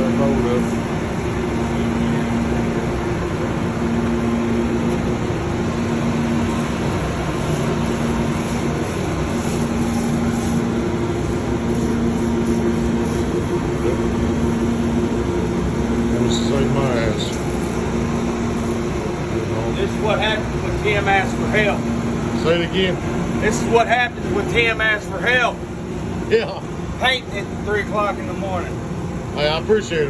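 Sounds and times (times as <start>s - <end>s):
boat machinery drone: 0.0s - 30.0s.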